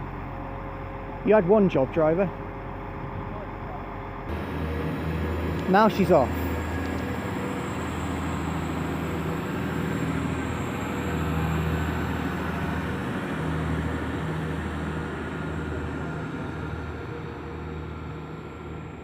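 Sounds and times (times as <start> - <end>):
diesel train engines pulling away: 0.0 - 19.0.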